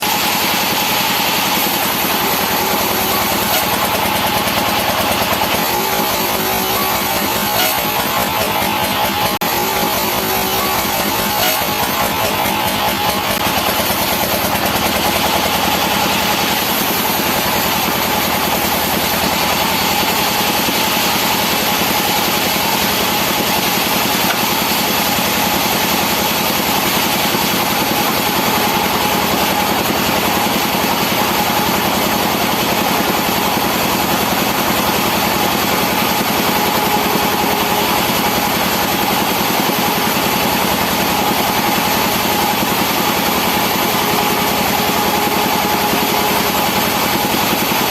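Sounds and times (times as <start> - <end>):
sawmill machinery drone: 0.0 - 47.9
steady machine whine: 0.0 - 47.9.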